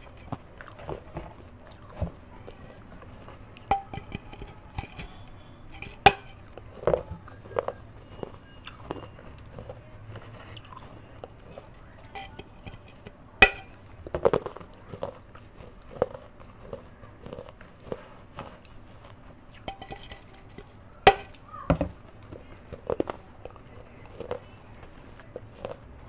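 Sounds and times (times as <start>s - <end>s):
clay pot cracking: 0.0s - 26.0s
crunchy chewing: 0.0s - 26.0s.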